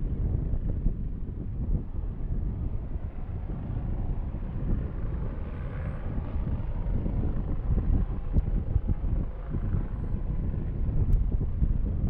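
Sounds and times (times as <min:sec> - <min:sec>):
distant jet engines humming: 0:00.0 - 0:12.0
wind buffeting microphone: 0:00.0 - 0:12.0.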